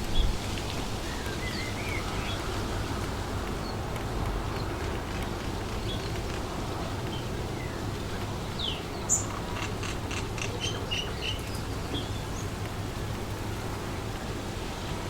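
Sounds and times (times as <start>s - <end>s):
steady wind: 0.0s - 15.0s
wild birds calling: 0.0s - 15.0s.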